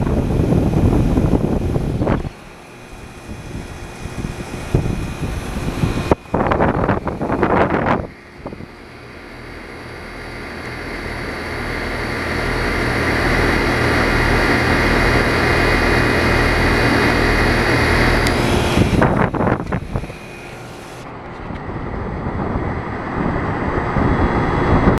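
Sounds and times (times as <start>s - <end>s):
air conditioner fan rushing: 0.0s - 25.0s.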